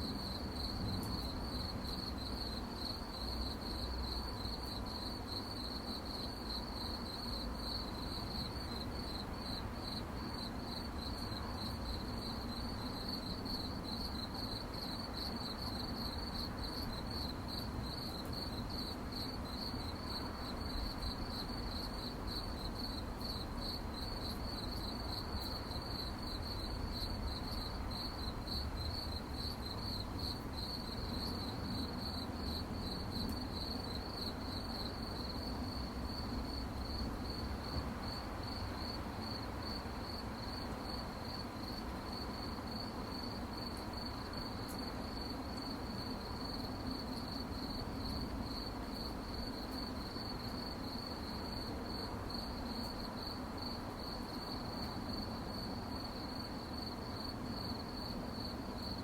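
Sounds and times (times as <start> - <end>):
crickets chirping: 0.0 - 59.0
faint low hiss: 0.0 - 59.0.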